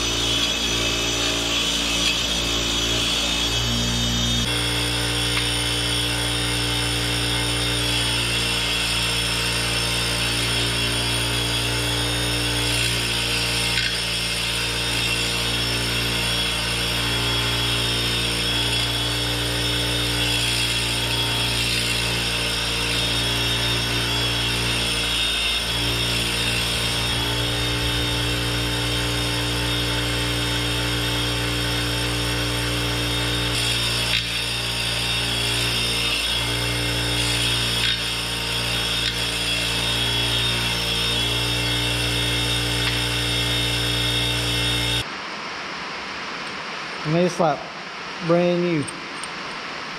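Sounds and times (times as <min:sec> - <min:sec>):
metal grinding on wheel: 0:00.0 - 0:45.0
bench grinder motor hum: 0:00.0 - 0:45.1.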